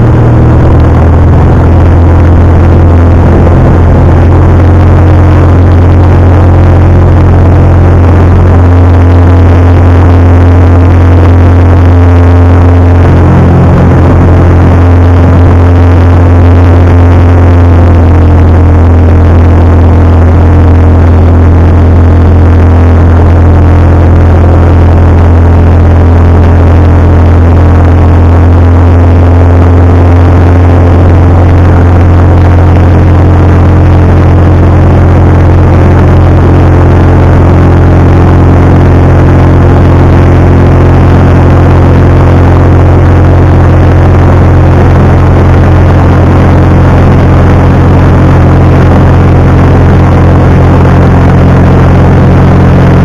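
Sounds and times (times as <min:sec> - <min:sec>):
light aircraft engine and propeller: 0:00.0 - 0:53.0.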